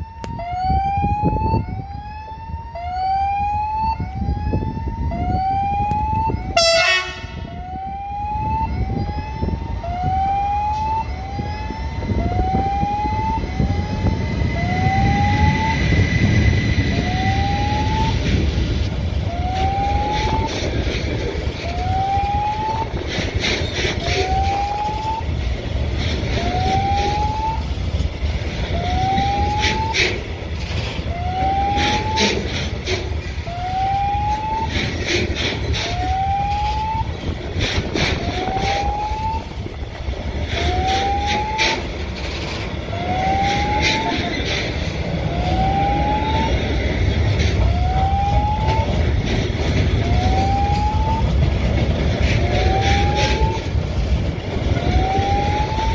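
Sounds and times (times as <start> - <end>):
level crossing warning tone: 0.0 - 55.9
steady low rumble: 3.4 - 55.9.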